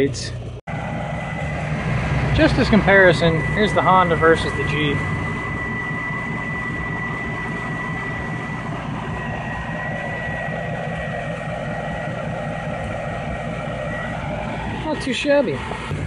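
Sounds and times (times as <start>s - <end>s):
car engines idling: 0.0s - 16.0s
steady high-pitched tone: 0.7s - 16.0s.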